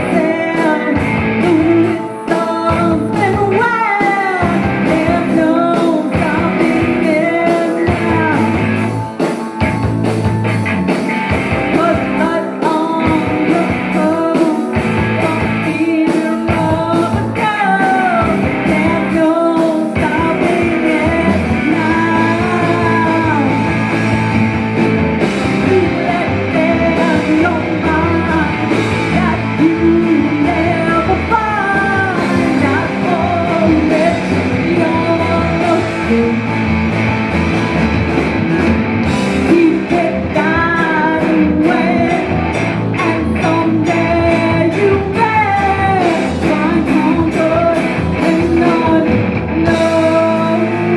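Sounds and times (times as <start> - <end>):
live rock band playing: 0.0 - 50.9
woman singing lead: 0.0 - 50.9.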